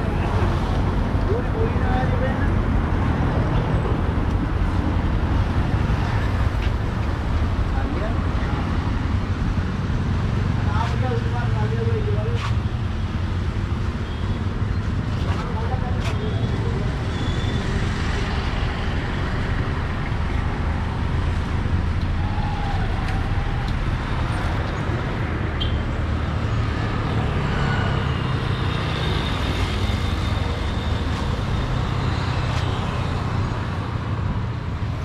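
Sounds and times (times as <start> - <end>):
road traffic passing: 0.0 - 35.0.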